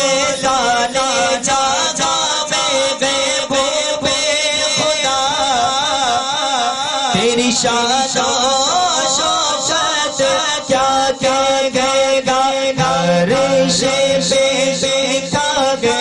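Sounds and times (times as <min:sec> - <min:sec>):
man singing into a microphone: 0:00.0 - 0:16.0
steady drone: 0:00.0 - 0:16.0.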